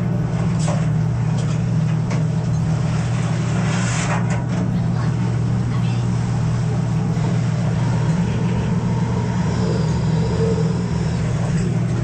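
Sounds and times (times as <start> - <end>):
boat engine droning: 0.0 - 12.0
wind and sea noise: 0.0 - 12.0.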